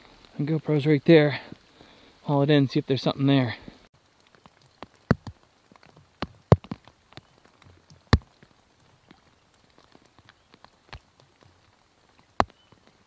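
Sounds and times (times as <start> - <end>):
raindrops tapping near microphone: 0.0 - 13.0.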